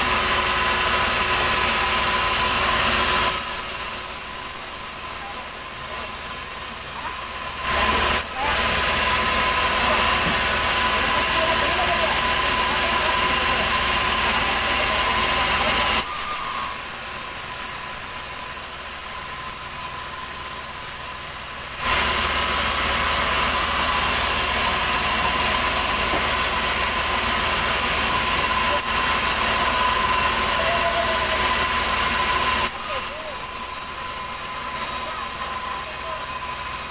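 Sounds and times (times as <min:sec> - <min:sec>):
band saw sawing log: 0:00.0 - 0:36.9.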